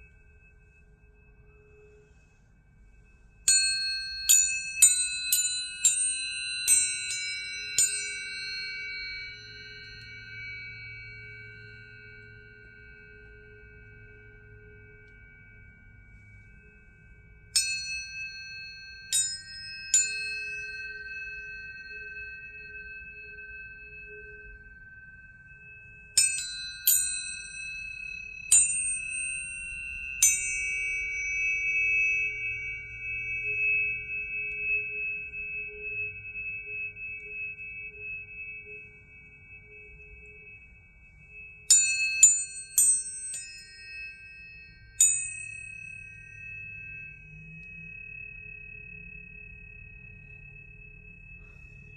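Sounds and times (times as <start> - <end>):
tuning forks ringing: 0.0 - 51.9
tuning fork metallic taps: 3.4 - 51.9.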